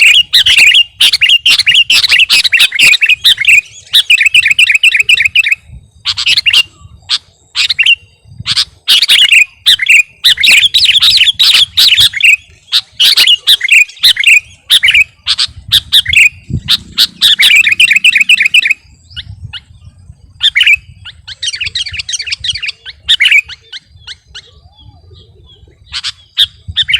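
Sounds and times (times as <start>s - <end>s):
bird chattering chirps: 0.0s - 19.8s, 20.4s - 26.9s.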